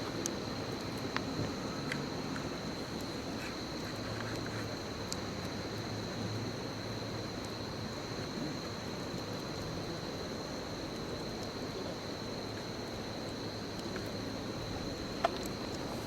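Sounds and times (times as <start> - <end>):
bonfire hissing and crackling: 0.0 - 16.0.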